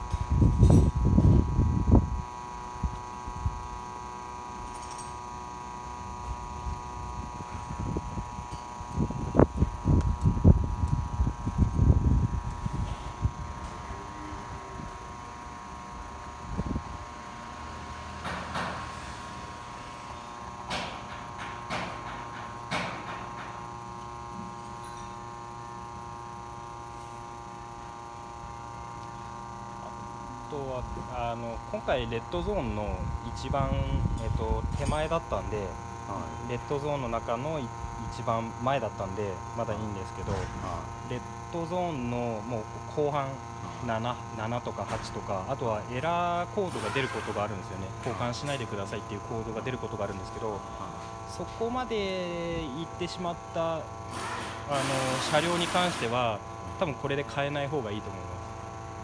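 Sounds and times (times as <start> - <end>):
machine electric hum and whine: 0.0 - 59.0.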